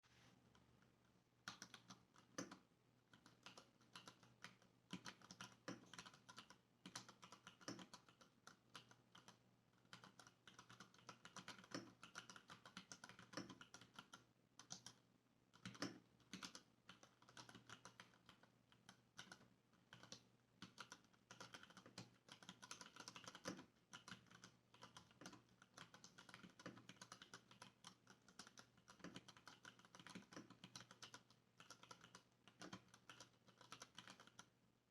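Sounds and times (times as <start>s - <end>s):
mechanical keyboard typing: 1.4s - 34.5s.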